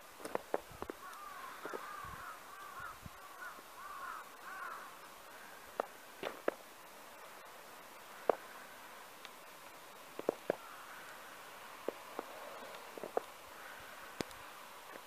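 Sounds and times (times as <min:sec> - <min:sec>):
bird calling: 0:00.0 - 0:06.5, 0:07.2 - 0:09.1, 0:10.2 - 0:15.0.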